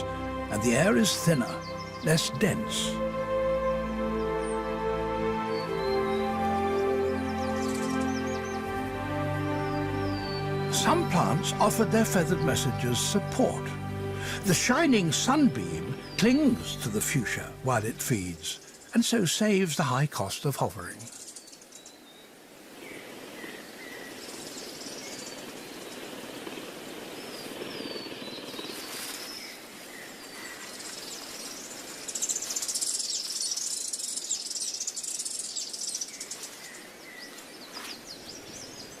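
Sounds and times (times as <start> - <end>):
insects buzzing: 0.0 - 19.4, 21.0 - 39.0
steady background hiss: 4.7 - 39.0.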